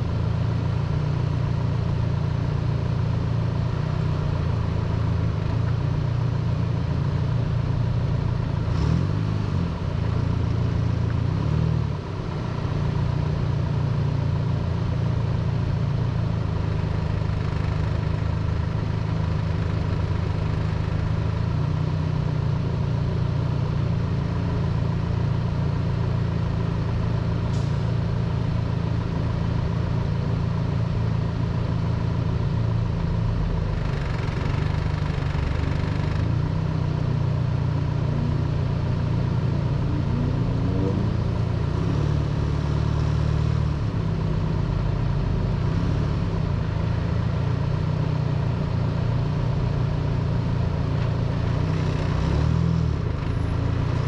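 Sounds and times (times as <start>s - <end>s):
car engine and road noise drone: 0.0s - 54.0s.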